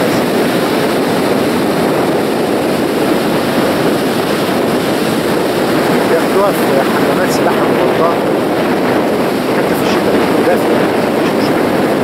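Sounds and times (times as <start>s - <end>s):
sea surf breaking on beach: 0.0s - 12.0s.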